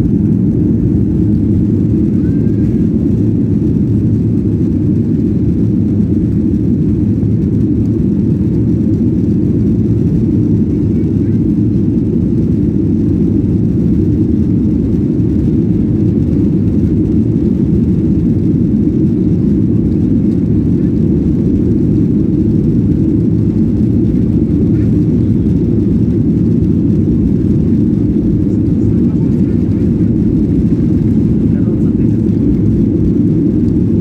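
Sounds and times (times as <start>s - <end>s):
jet engines and wheels rumbling: 0.0s - 34.0s.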